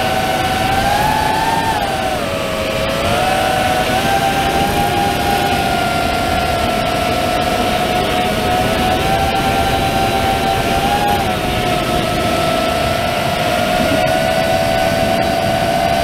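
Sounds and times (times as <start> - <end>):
quadcopter motors whining: 0.0 - 16.0
rush of air: 0.0 - 16.0.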